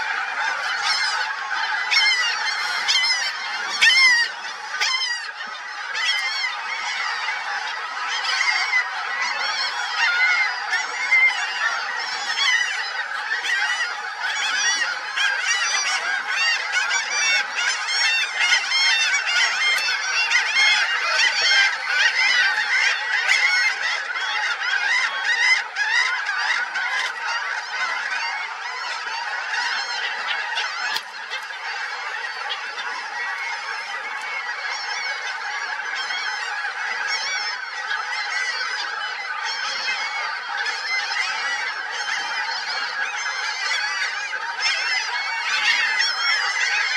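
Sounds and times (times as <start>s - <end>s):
flock of birds honking: 0.0s - 46.9s.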